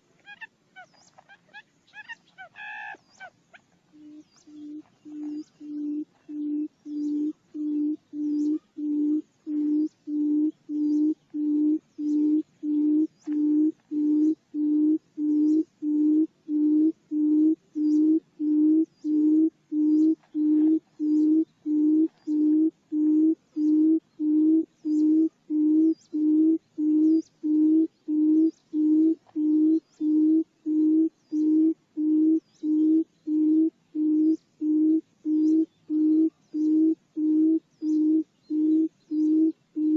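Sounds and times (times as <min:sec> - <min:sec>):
low hollow bird hoots: 0:00.0 - 0:39.9.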